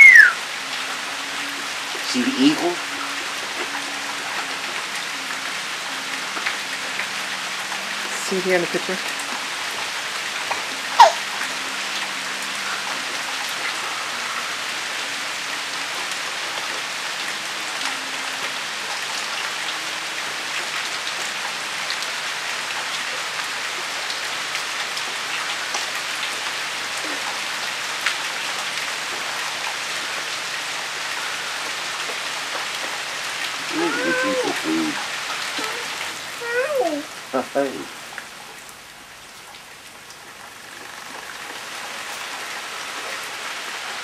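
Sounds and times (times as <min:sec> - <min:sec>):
rain falling on a surface: 0:00.0 - 0:44.0.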